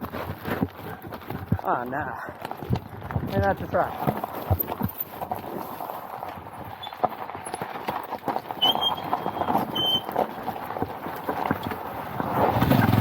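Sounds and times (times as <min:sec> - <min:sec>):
motorcycle knocks and rattles: 0:02.4 - 0:13.0.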